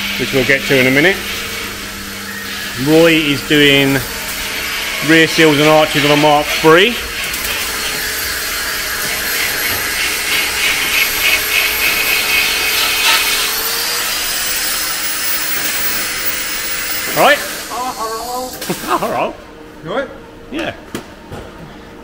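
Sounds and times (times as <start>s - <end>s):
power grinder grinding metal: 0.0s - 17.7s.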